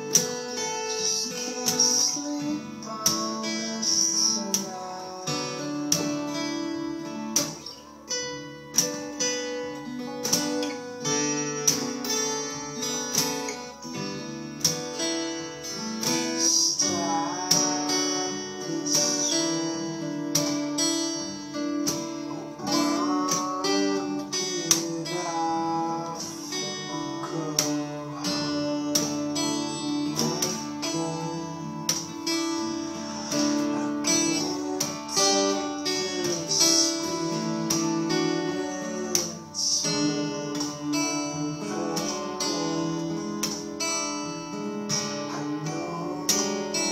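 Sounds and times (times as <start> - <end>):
acoustic guitar playing: 0.0 - 46.9.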